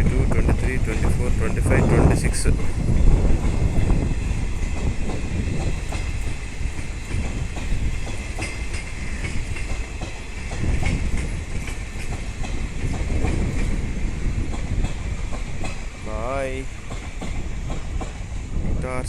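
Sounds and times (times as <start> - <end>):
train wheels clattering over rails: 0.0 - 18.8.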